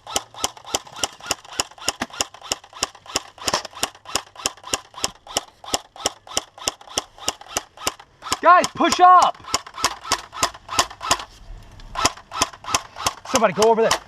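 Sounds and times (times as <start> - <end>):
airsoft gun shots: 0.0 - 11.3, 11.9 - 14.0.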